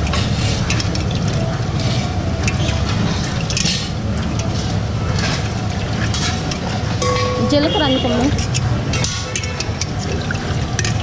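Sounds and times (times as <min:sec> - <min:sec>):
low rumbling noise with hiss: 0:00.0 - 0:11.0.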